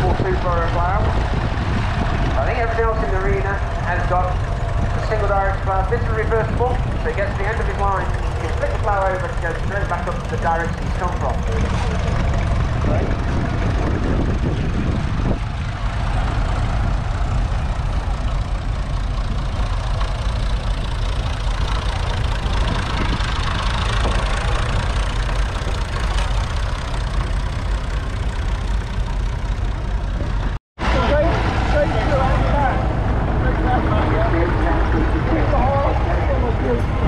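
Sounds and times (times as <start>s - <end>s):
tractor engine rumbling: 0.0s - 37.0s.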